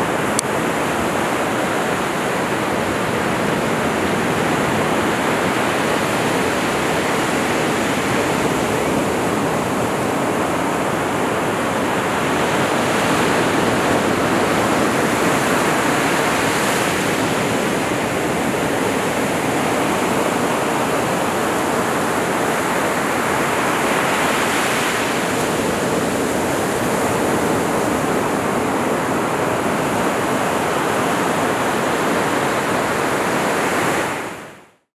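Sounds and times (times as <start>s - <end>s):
waves breaking on sand: 0.0s - 34.5s.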